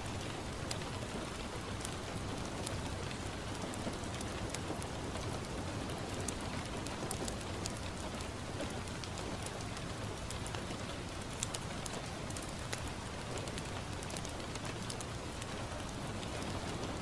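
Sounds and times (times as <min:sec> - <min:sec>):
rain falling on a window: 0:00.0 - 0:17.0.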